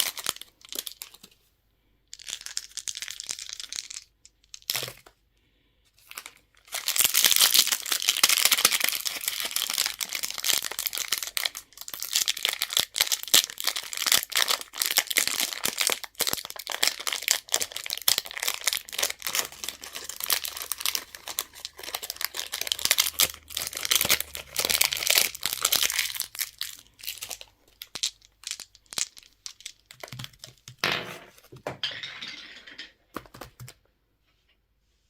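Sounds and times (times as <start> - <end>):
candy wrappers crinkling and tearing: 0.0 - 1.4, 2.1 - 5.1, 6.0 - 30.8.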